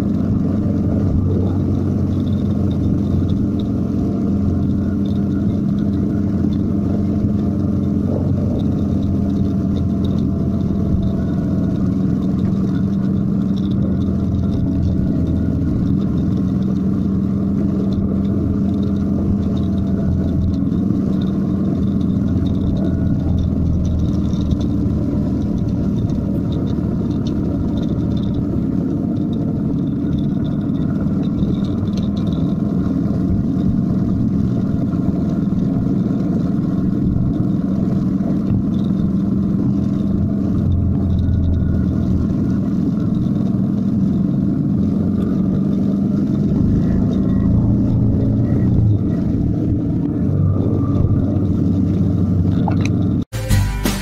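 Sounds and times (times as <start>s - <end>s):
wind noise: 0.0s - 53.3s
motorcycle engine running: 0.0s - 54.0s
road noise: 0.0s - 54.0s.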